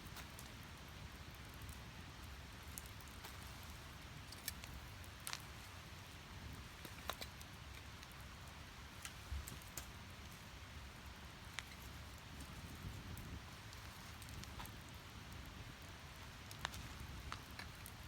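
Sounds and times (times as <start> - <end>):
firewood crackling and popping: 0.0 - 18.0
flames rushing: 0.0 - 18.0.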